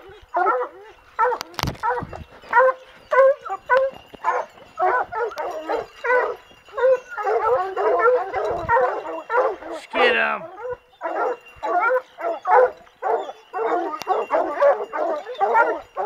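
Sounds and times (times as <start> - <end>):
hounds barking: 0.0 - 16.0.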